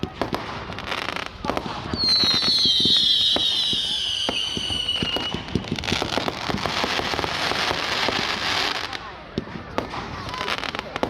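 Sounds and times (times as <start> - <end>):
firework bangs and pops: 0.0 - 11.0
firework crackling: 0.0 - 11.0.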